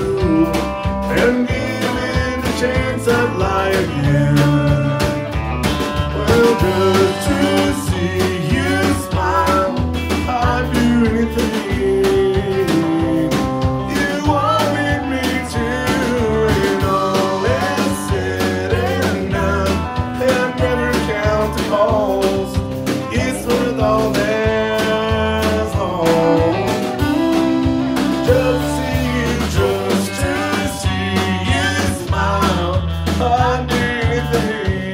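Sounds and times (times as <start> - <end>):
man singing: 0.0 - 5.4, 6.0 - 34.9
bass and drum beat: 0.0 - 34.9
strummed acoustic guitar: 0.0 - 34.9.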